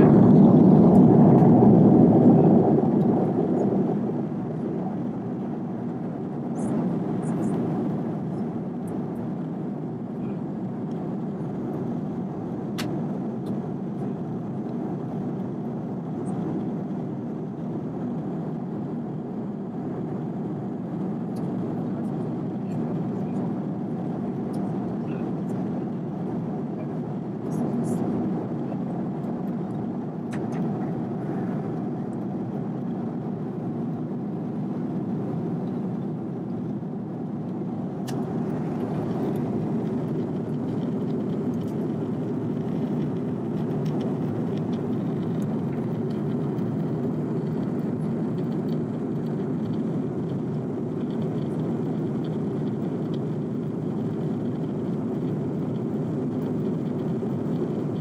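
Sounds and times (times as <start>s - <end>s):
jet airliner cabin noise: 0.0s - 58.0s.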